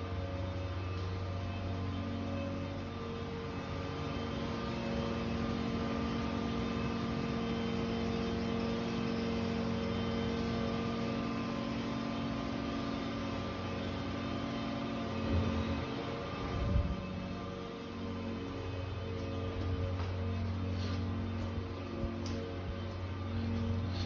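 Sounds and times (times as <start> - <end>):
mechanical drone: 0.0 - 24.0.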